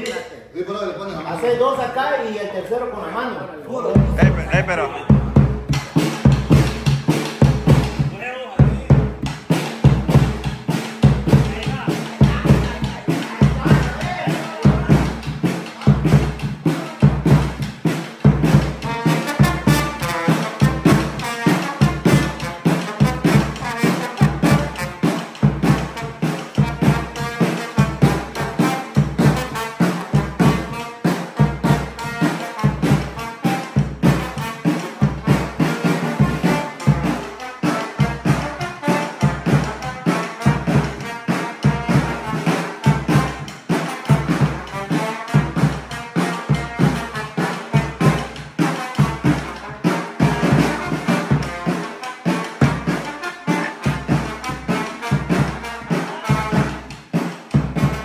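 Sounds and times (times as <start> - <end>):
bass drum beat: 4.0 - 51.7
trombone melody: 9.6 - 58.0.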